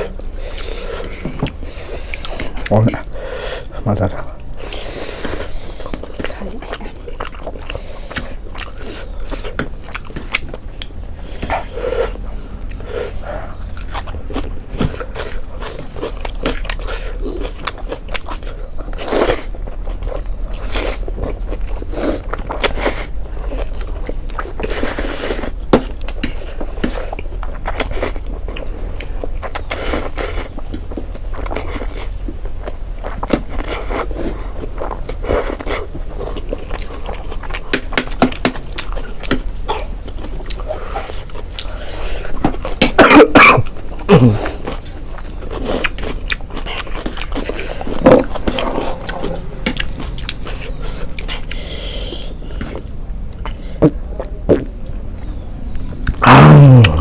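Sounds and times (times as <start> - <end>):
chewing and biting noodles: 0.0 - 43.0, 43.6 - 57.0.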